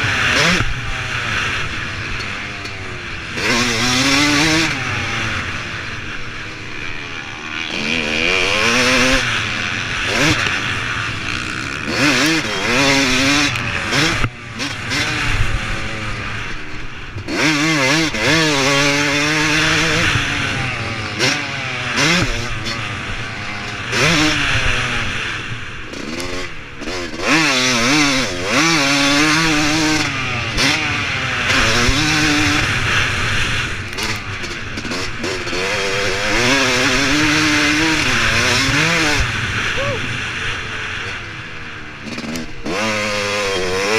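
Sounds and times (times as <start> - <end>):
motocross engine revving: 0.0 - 43.9.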